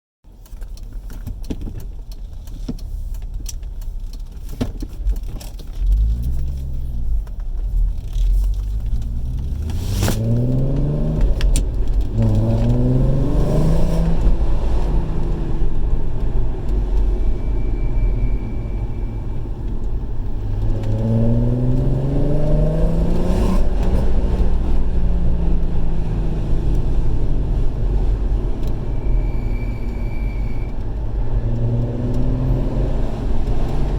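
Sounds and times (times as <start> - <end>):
car engine revving: 5.8 - 33.9.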